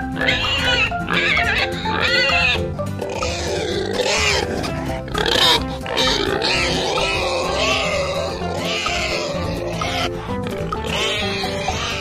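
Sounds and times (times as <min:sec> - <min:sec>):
background music: 0:00.0 - 0:12.0
piglets squealing: 0:00.0 - 0:12.0.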